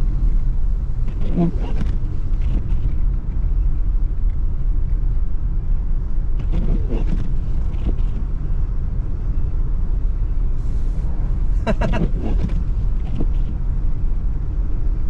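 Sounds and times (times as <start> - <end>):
car interior driving rumble: 0.0 - 15.0.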